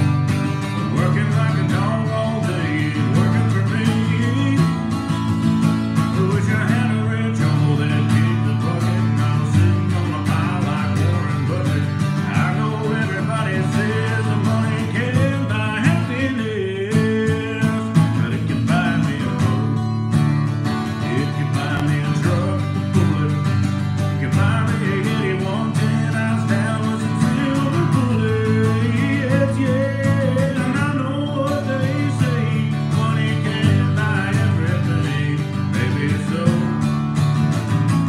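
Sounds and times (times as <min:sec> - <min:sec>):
man singing country song: 0:00.0 - 0:38.0
strummed guitar: 0:00.0 - 0:38.0.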